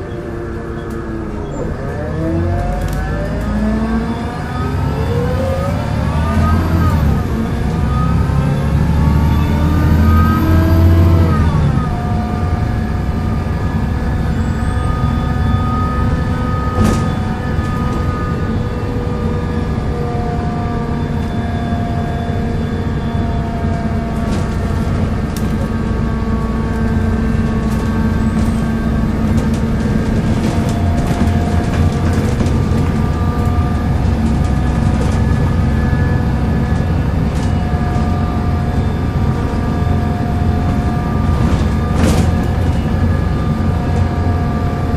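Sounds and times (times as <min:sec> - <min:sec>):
bus diesel engine running: 0:00.0 - 0:44.9
groaning driveline whine: 0:00.0 - 0:44.9.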